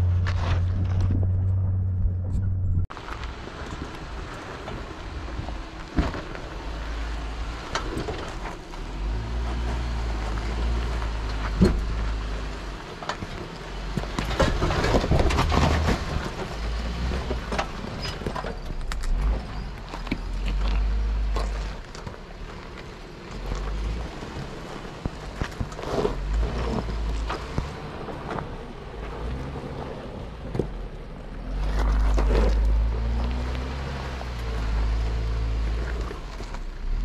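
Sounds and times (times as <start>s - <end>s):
engine running low: 0.0s - 37.0s
tyres crunching over rock: 2.9s - 29.8s, 30.4s - 37.0s.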